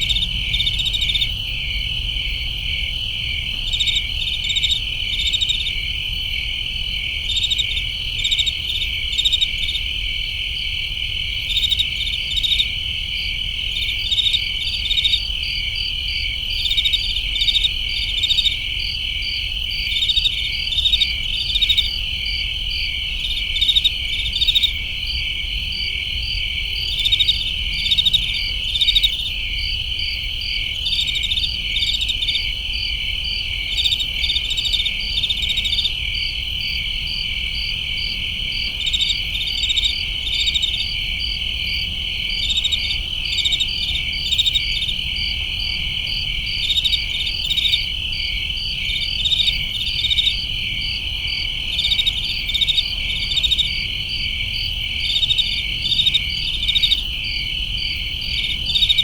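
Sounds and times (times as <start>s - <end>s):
crickets trilling: 0.0s - 59.0s
quick cricket chirps: 0.0s - 59.0s.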